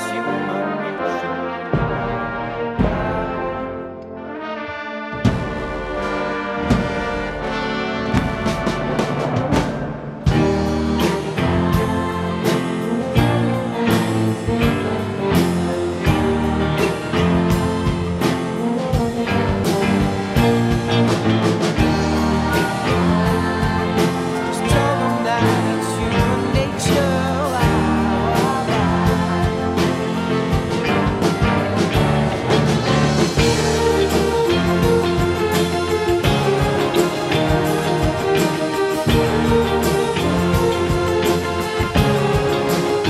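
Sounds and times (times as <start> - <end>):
band playing steady beat: 0.0 - 43.0
trombones and trumpets playing: 0.0 - 43.0.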